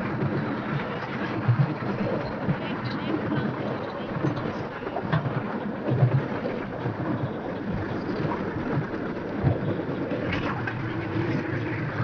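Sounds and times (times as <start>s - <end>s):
train rumbling and rattling on rails: 0.0s - 12.0s
wind buffeting microphone: 0.0s - 12.0s.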